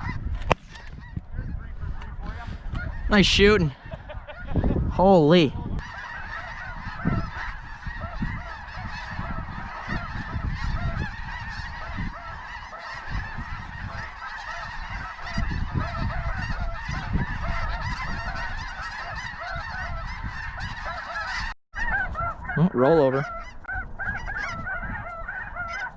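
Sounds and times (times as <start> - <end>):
flock of geese honking: 0.0 - 25.9
wind rumble on microphone: 0.0 - 25.9.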